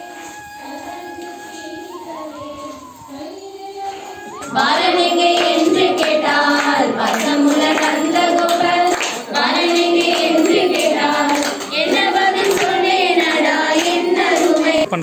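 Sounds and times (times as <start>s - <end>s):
girls singing in unison: 0.0s - 14.9s.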